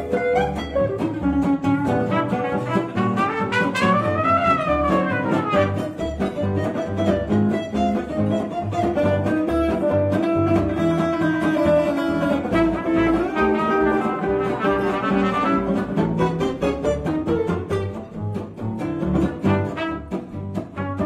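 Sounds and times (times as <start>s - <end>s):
acoustic guitars strumming rhythm: 0.0s - 21.0s
bowed strings playing melody: 0.0s - 21.0s.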